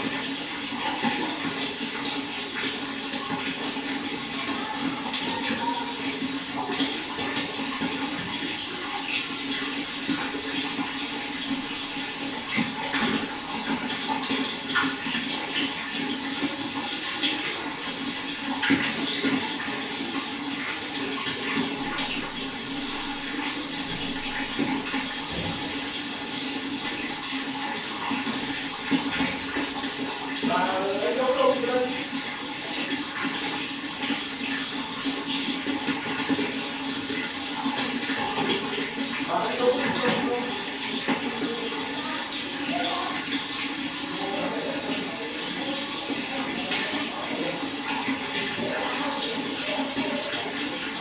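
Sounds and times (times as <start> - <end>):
running water splashing: 0.0 - 51.0.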